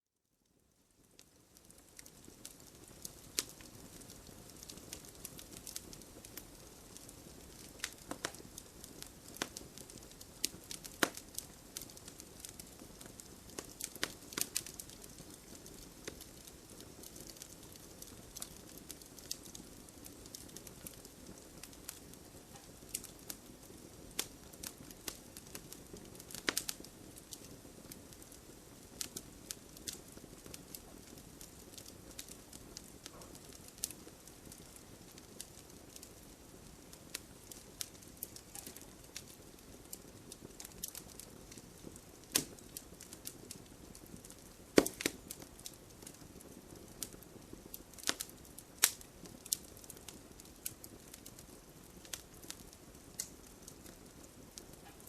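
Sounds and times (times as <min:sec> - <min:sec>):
soft hiss of flames: 0:00.2 - 0:55.0
campfire crackling and popping: 0:00.9 - 0:55.0.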